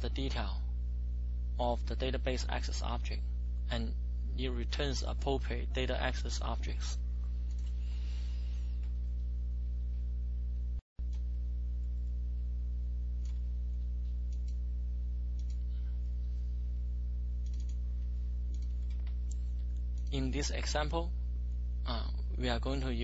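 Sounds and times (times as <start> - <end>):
low electrical mains hum: 0.0 - 23.0.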